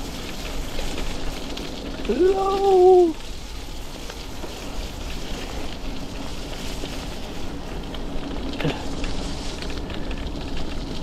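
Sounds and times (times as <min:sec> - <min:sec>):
bike tyres rolling on gravel: 0:00.0 - 0:11.0.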